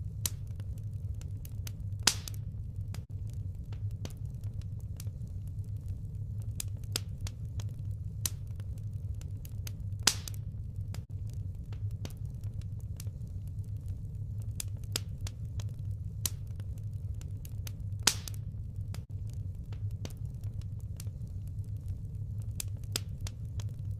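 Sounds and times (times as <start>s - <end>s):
fire pops: 0.0s - 23.9s
firewood burning and crackling: 0.0s - 23.9s.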